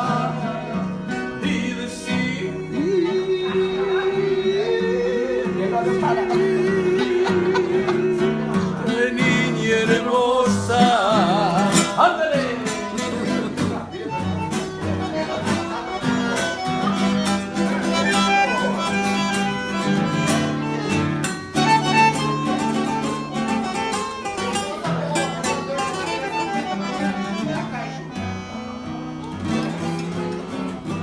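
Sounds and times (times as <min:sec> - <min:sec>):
strummed guitars: 0:00.0 - 0:31.0.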